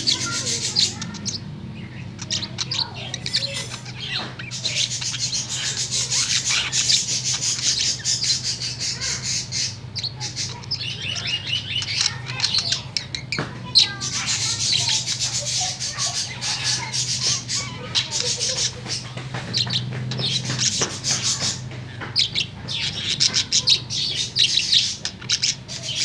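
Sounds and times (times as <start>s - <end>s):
budgerigar warbling: 0.0s - 26.0s.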